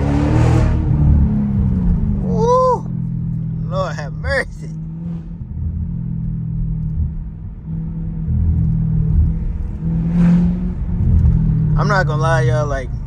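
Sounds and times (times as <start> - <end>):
car exhaust driving: 0.0 - 13.0.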